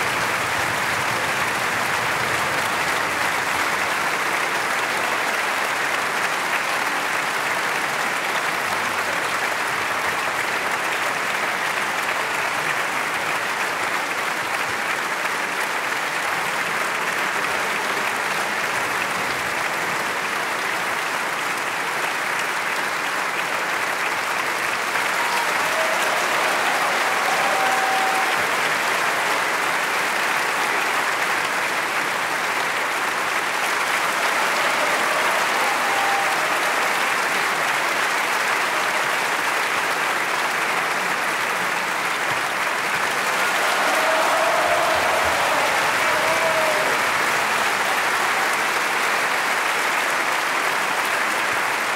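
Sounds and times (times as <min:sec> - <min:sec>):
audience applauding: 0:00.0 - 0:51.9.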